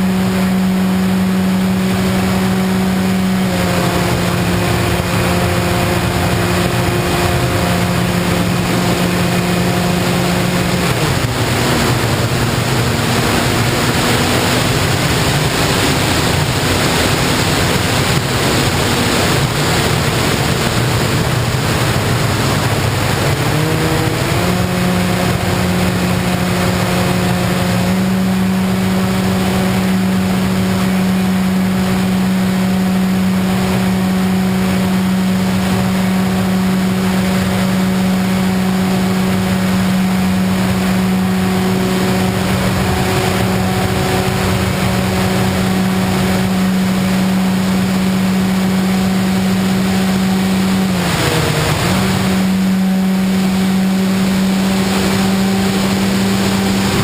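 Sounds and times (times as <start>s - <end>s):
model airplane motor: 0.0s - 57.0s
rush of air: 0.0s - 57.0s.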